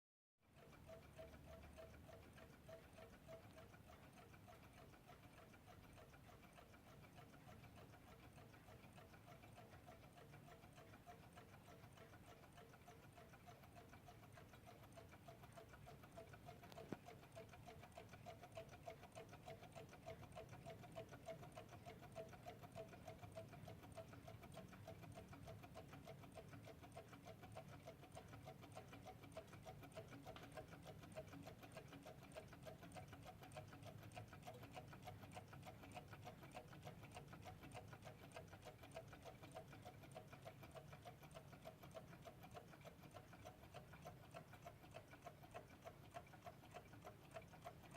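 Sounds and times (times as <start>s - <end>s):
alarm clock ticking: 0.5s - 47.9s.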